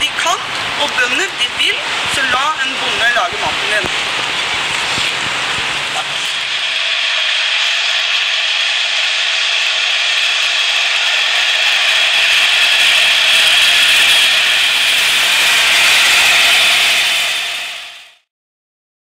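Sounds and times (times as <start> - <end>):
steel roller grinding on asphalt: 0.0 - 18.2.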